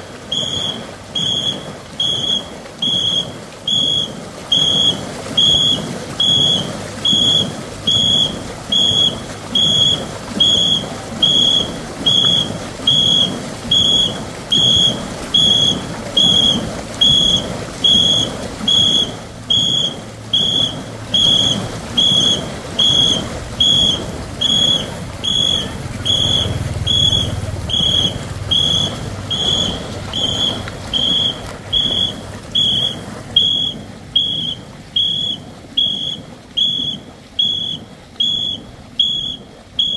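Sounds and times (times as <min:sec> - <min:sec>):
whistle short blasts: 0:00.3 - 0:39.9.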